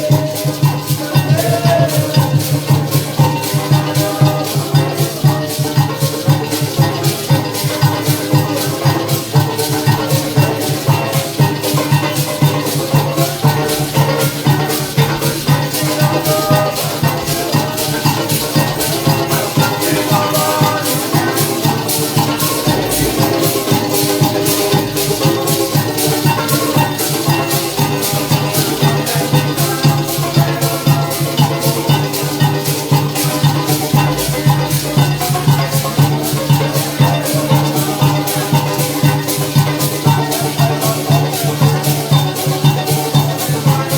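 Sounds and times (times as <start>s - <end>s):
drum beat: 0.0s - 43.9s
lively band music: 0.0s - 43.9s
shaken maraca: 0.0s - 43.9s.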